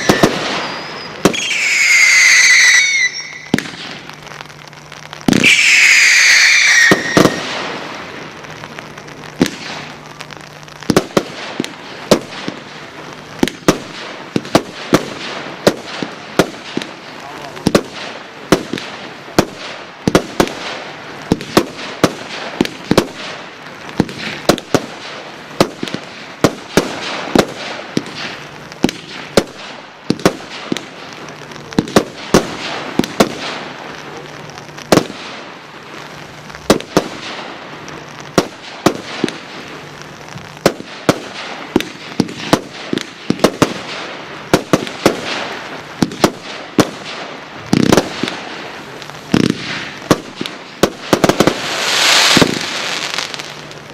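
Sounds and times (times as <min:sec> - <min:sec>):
firework bangs: 0:00.0 - 0:53.9
firework hiss: 0:00.0 - 0:53.9.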